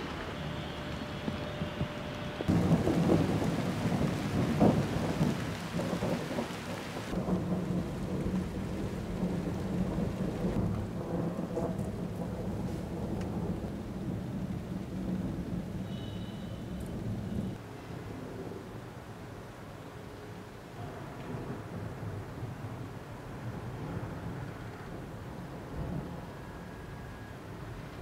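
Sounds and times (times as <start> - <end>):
thunder crack and rumble: 0.0 - 16.2, 20.8 - 28.0
rain: 0.0 - 28.0.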